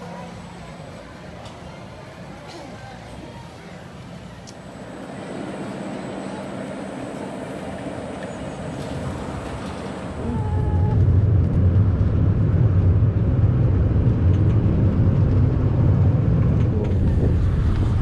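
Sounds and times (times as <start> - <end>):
roller coaster rumbling on track: 0.0 - 18.0.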